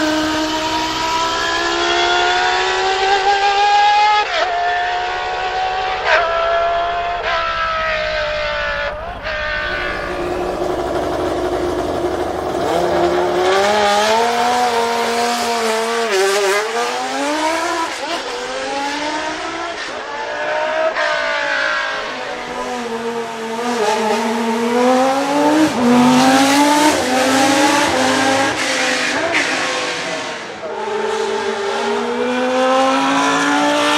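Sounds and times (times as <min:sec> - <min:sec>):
race car engines revving: 0:00.0 - 0:33.9.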